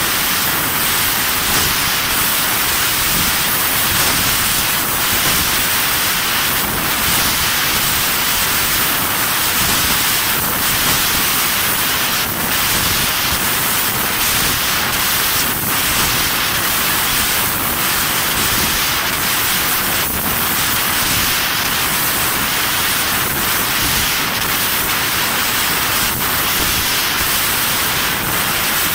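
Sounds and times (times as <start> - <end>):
laser cutting machine hissing: 0.0 - 28.9.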